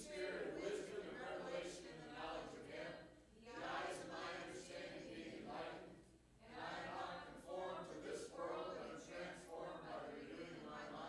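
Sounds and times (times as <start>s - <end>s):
group singing worship song: 0.0s - 11.0s.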